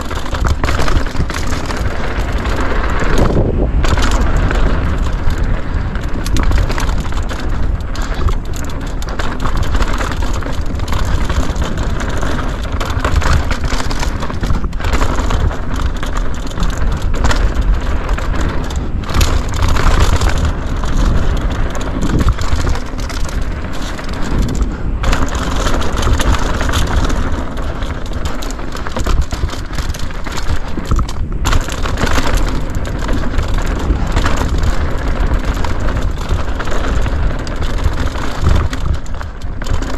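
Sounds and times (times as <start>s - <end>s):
bike rattling and knocking: 0.0s - 39.9s
bike tyres on dirt and gravel: 0.0s - 39.9s.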